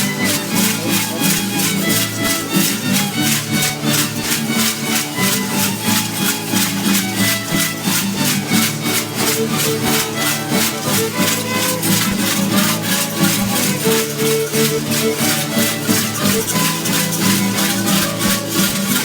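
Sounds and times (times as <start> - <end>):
rattles shaken in a beat: 0.0 - 19.0
sustained fiddle-like tones: 0.0 - 19.0.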